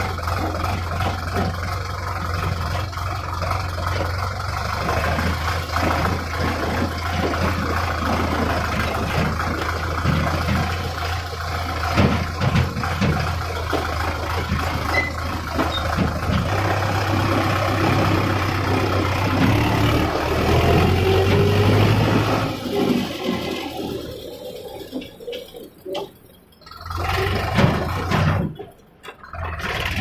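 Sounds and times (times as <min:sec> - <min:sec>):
farm machinery engine running: 0:00.0 - 0:30.0.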